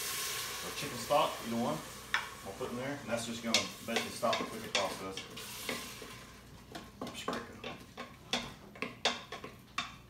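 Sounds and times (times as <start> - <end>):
sizzle: 0.0 - 10.0
wooden spoon scraping metal pot: 1.5 - 10.0.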